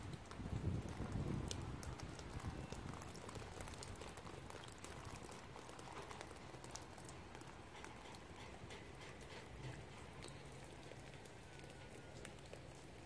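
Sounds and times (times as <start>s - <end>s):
light rain falling: 0.0s - 13.0s
raindrops ticking: 0.0s - 13.0s.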